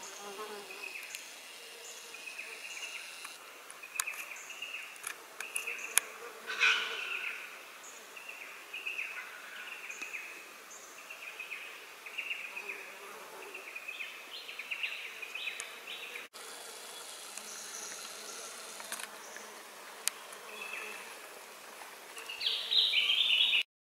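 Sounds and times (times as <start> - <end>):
insects buzzing in bursts: 0.0 - 9.6, 10.4 - 23.5.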